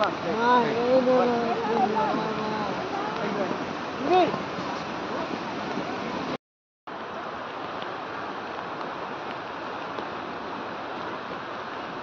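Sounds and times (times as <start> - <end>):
steady rushing outdoor noise: 0.0 - 12.0.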